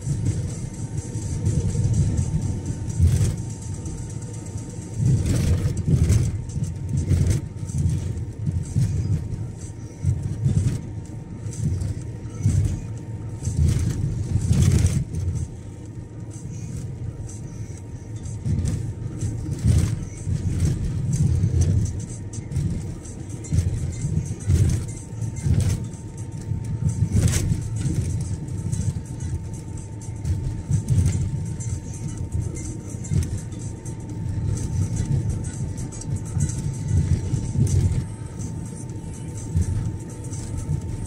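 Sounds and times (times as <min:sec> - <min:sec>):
car engine and road rumble: 0:00.0 - 0:41.0.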